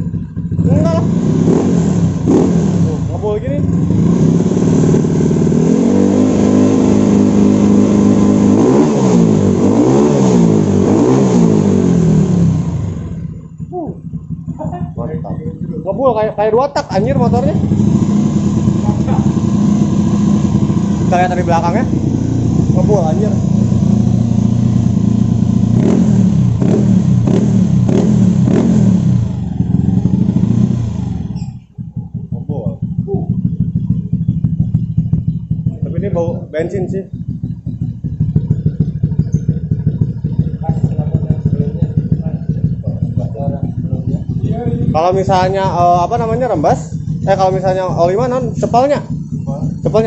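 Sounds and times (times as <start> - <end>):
scooter engine revving: 0.0 - 50.0.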